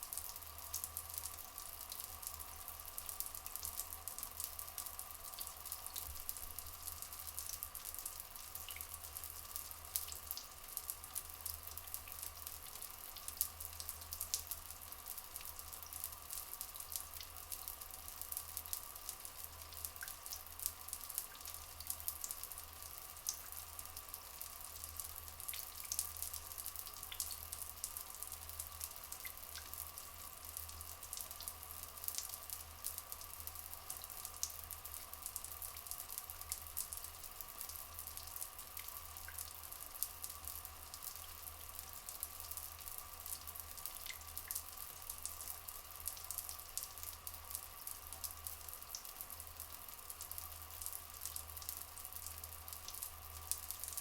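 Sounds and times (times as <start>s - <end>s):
water drips and splashes: 0.0s - 54.0s
water trickling: 0.0s - 54.0s.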